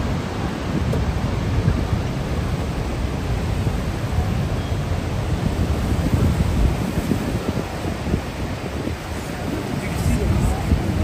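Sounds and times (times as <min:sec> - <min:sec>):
waterfall roaring: 0:00.0 - 0:11.0
wind gusting on microphone: 0:00.0 - 0:11.0.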